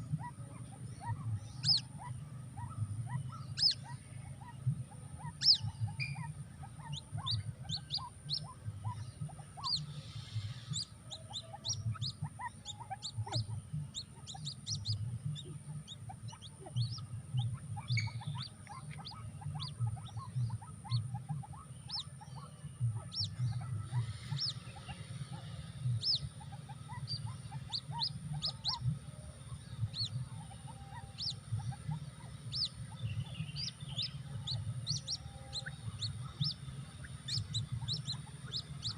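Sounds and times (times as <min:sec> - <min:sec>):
birds chirping: 0:00.0 - 0:38.9
low pulsing hum: 0:00.0 - 0:38.9.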